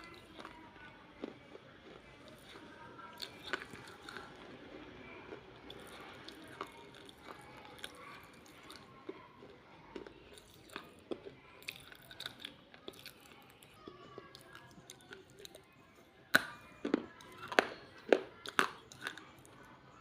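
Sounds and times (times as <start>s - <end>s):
clay pieces crunched by chewing: 0.0s - 15.7s, 16.3s - 19.6s.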